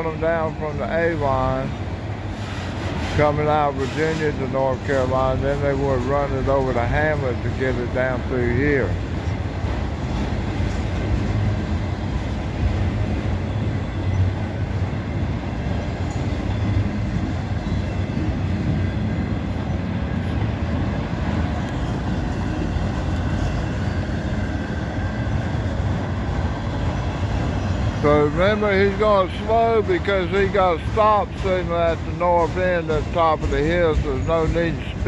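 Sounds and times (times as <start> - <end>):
freight train cars rolling on rails: 0.0 - 35.0.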